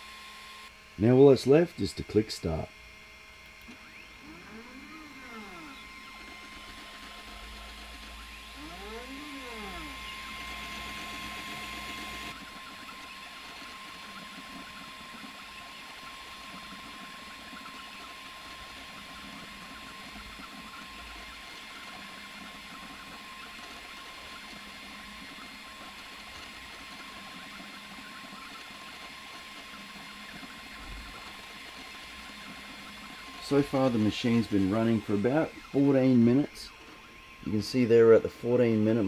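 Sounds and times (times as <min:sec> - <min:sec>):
laser engraver humming: 0:00.0 - 0:39.0
constant tone: 0:01.1 - 0:39.0.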